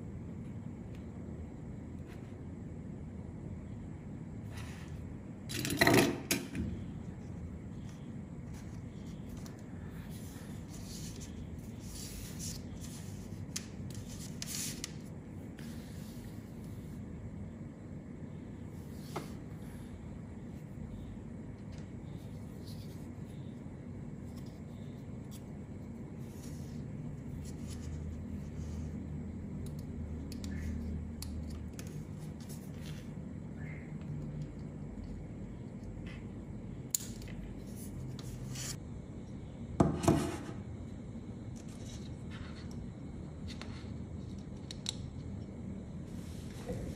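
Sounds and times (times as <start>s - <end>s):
low background hum: 0.0s - 46.9s.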